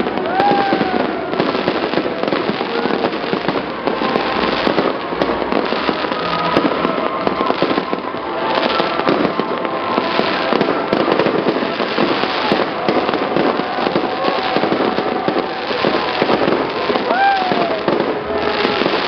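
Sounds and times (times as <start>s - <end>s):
crackling of bursting shells: 0.0s - 19.0s
fireworks cracks and bangs: 0.0s - 19.0s.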